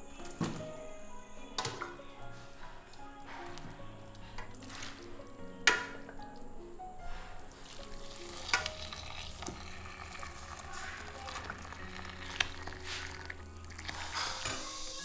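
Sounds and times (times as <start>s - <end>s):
broth boiling in a pot: 1.6s - 15.0s.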